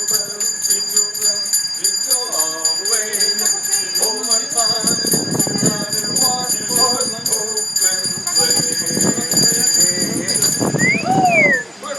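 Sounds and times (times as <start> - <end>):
handbells ringing: 0.0 - 11.4
voices: 0.0 - 11.9.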